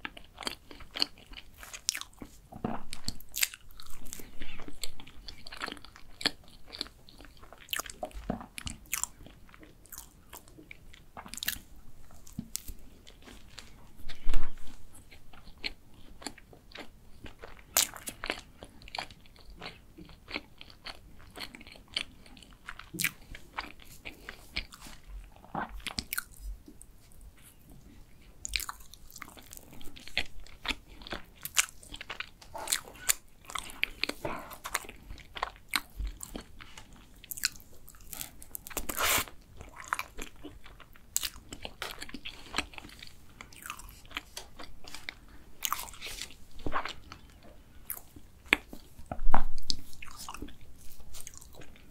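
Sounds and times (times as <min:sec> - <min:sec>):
chewing and wet mouth sounds: 0:00.0 - 0:51.9.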